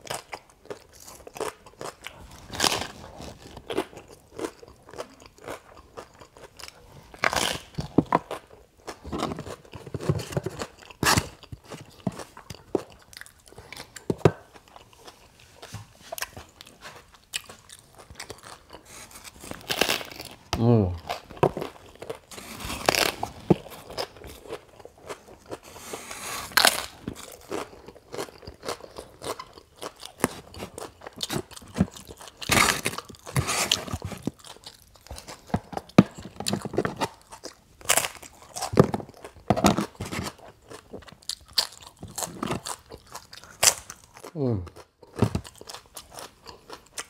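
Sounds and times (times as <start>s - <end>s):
crunching and chewing crisp food: 0.0s - 47.0s.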